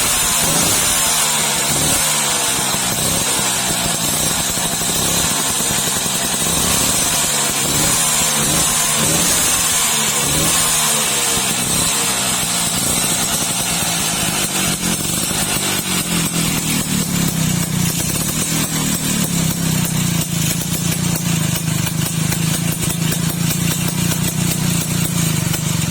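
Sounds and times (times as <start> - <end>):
scooter engine idling: 0.0 - 25.9.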